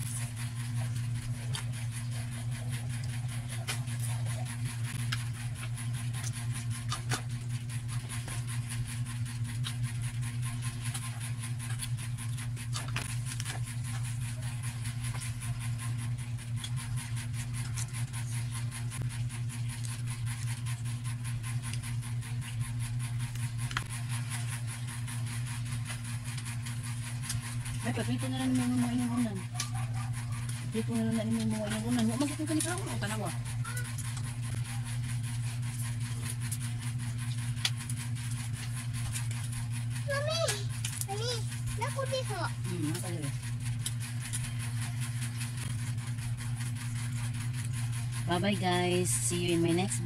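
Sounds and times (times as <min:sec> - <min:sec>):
ceiling fan humming: 0:00.0 - 0:50.0.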